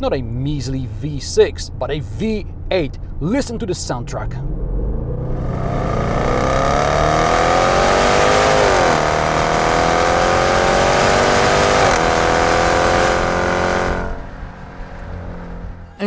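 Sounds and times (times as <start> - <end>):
car exhaust accelerating: 0.0 - 16.0.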